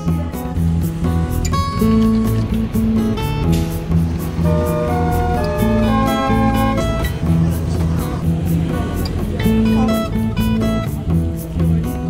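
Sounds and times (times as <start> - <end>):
guitar strumming music: 0.0 - 12.0.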